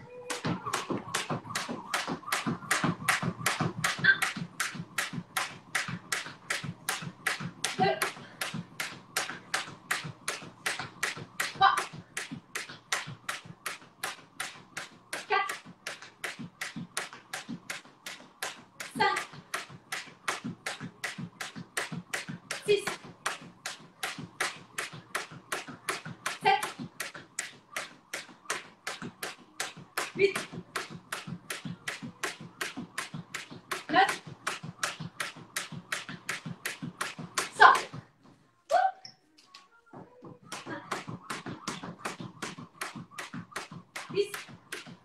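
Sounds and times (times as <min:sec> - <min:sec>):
jump rope slapping wooden floor: 0:00.3 - 0:38.2, 0:39.9 - 0:45.0.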